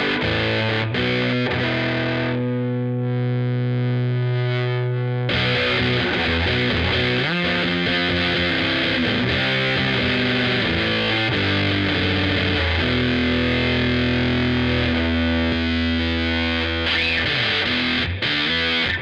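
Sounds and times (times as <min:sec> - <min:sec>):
distorted electric bass guitar: 0:00.0 - 0:19.0.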